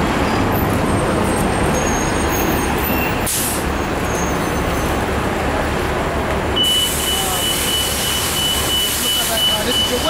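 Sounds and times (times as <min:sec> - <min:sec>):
traffic of large vehicles passing: 0:00.0 - 0:10.0.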